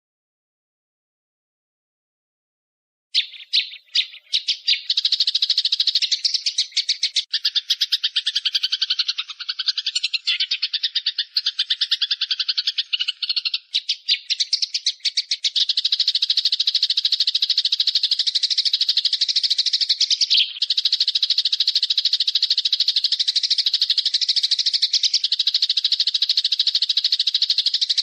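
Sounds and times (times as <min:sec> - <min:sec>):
small bird chattering call: 0:03.2 - 0:28.0.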